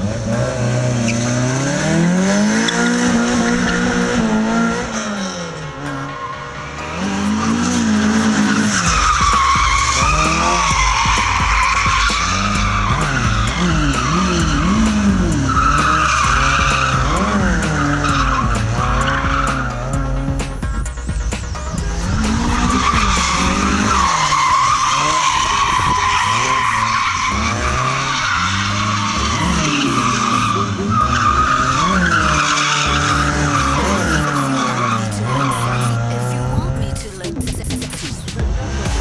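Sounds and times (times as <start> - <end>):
car engine revving: 0.0 - 39.0
tyres squealing: 1.1 - 20.4, 21.8 - 39.0.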